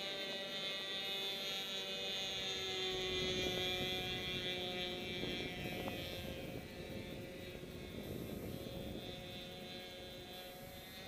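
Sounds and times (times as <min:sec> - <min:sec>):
model plane motor drone: 0:00.0 - 0:11.0.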